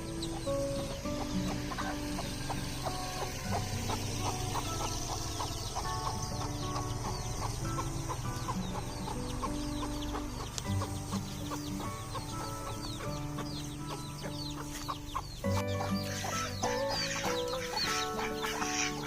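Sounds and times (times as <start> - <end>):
background music: 0.0 - 19.0
chickens clucking: 0.0 - 19.0.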